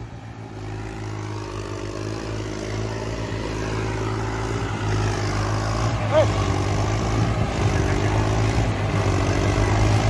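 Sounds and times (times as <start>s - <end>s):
diesel tractor engines labouring: 0.0s - 10.0s.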